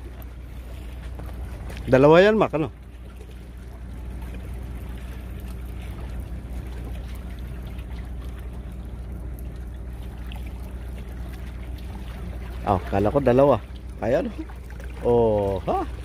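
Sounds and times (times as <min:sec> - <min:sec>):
motor humming: 0:00.0 - 0:16.0
water trickling: 0:00.0 - 0:16.0.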